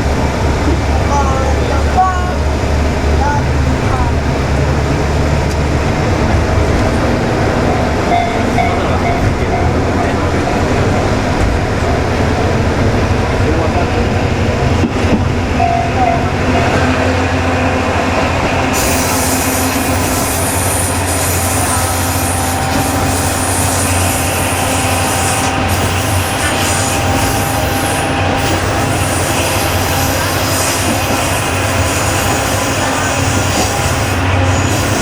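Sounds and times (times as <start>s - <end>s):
diesel engine droning: 0.0s - 35.0s
wheels rumbling on rail: 0.0s - 35.0s.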